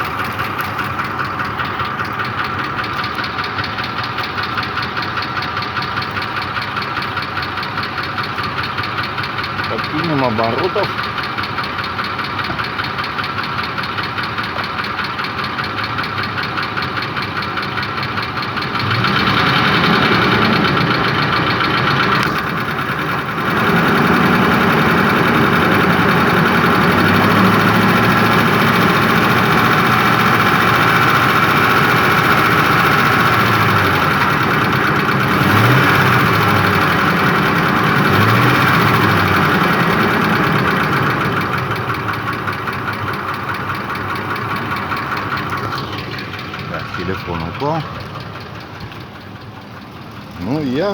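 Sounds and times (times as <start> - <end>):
car engine idling and revving: 0.0 - 50.9
engine knock: 0.0 - 50.9.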